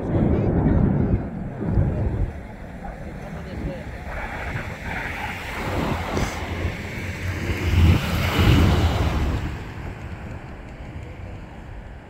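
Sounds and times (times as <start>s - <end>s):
aircraft passing roar: 0.0s - 12.0s
wind buffeting microphone: 0.0s - 12.0s.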